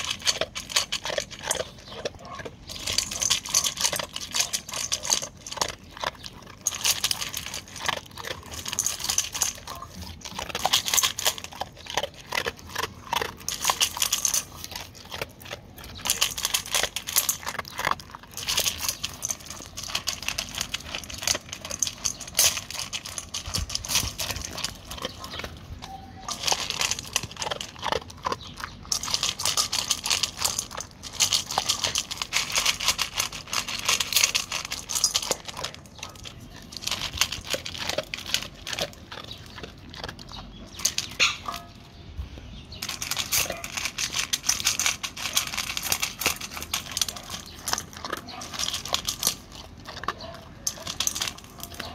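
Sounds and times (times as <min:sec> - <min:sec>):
kibble rattling in metal bowl: 0:00.0 - 0:42.0, 0:42.7 - 0:51.9
dog crunching kibble: 0:00.0 - 0:51.9.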